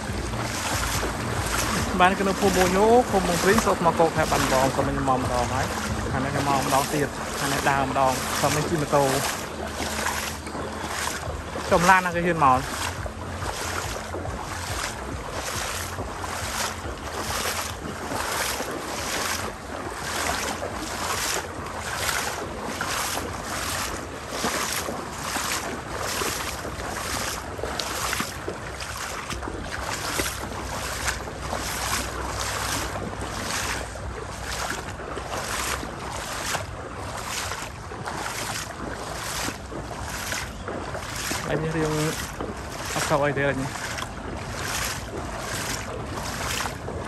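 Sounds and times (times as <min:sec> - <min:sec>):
water splashing rhythmically: 0:00.0 - 0:47.0
wind on microphone: 0:00.0 - 0:47.0.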